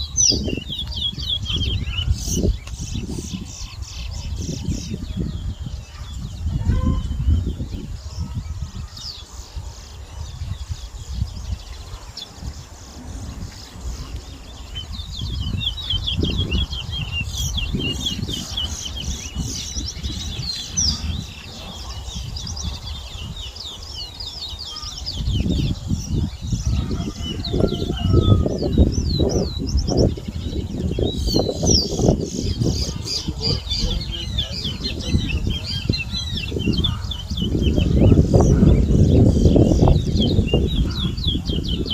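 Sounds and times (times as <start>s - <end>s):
finches singing high chirps: 0.0s - 41.9s.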